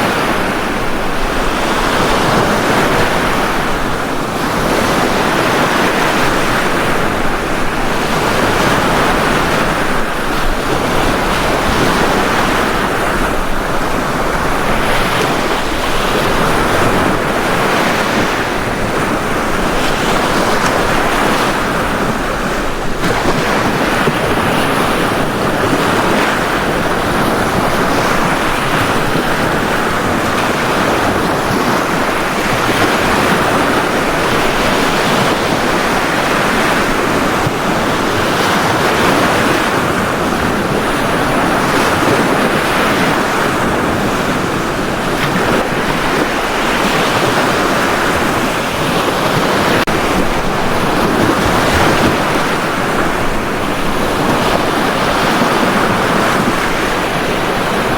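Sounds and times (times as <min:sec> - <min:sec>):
waves breaking on a beach: 0:00.0 - 0:57.9.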